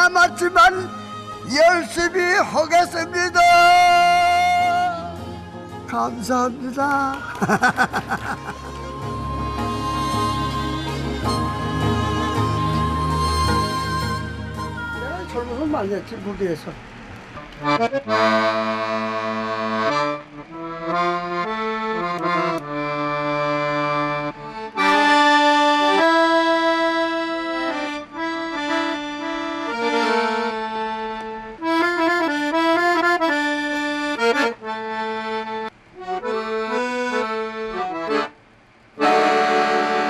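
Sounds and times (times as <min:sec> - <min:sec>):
accordion playing a tune: 0:00.0 - 0:40.0.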